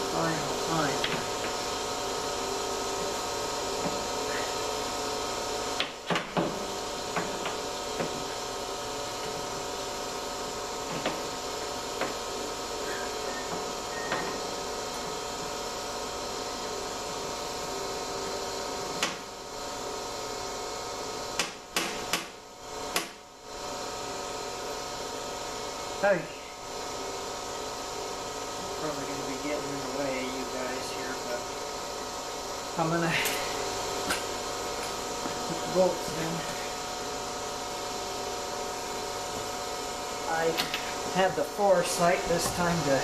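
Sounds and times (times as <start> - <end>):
steady hum: 0.0 - 43.0.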